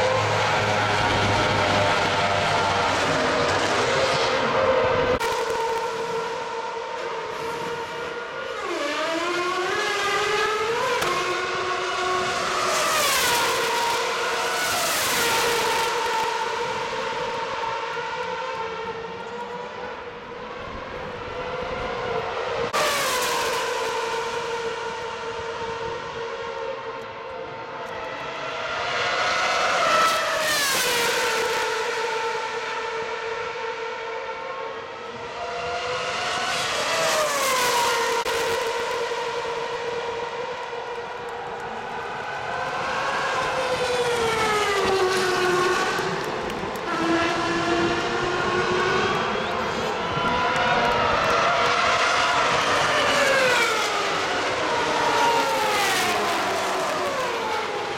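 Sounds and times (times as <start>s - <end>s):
race car engines passing: 0.0s - 57.9s.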